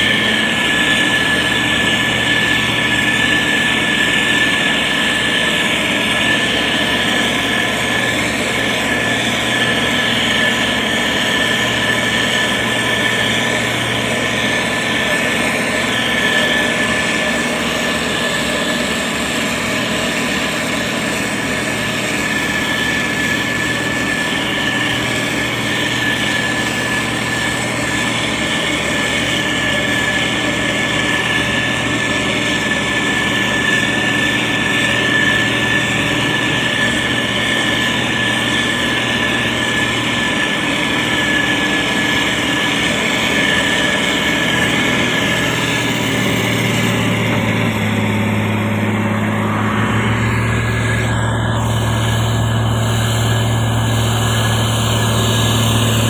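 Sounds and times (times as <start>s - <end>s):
constant high whine: 0.0s - 56.0s
grader diesel engine running: 0.0s - 56.0s.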